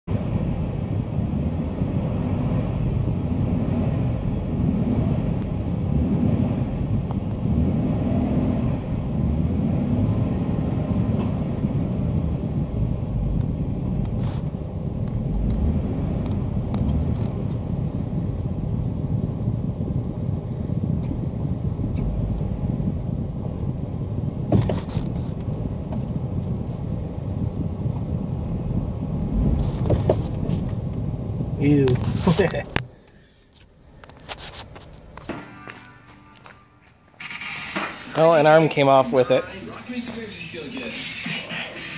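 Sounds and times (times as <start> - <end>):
vehicle engine rumbling: 0.0 - 41.9.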